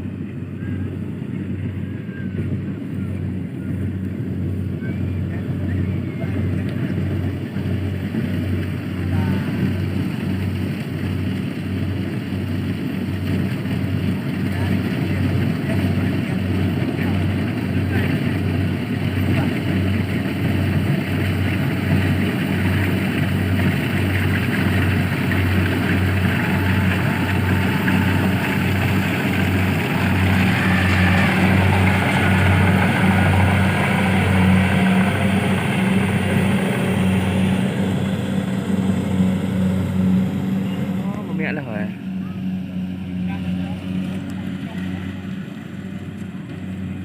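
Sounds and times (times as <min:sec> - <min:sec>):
small engine throbbing: 0:00.0 - 0:47.0.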